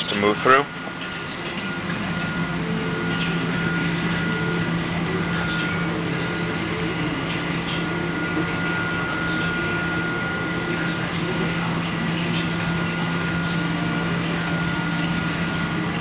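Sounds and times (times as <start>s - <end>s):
high steady whine: 0.0s - 16.0s
machine hum: 0.0s - 16.0s.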